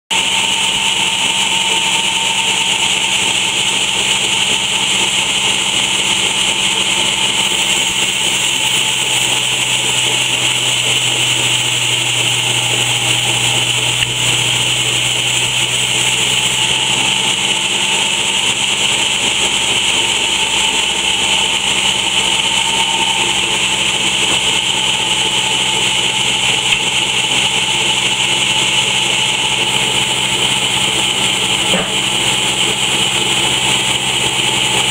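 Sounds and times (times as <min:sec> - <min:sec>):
band saw running: 0:00.0 - 0:34.9.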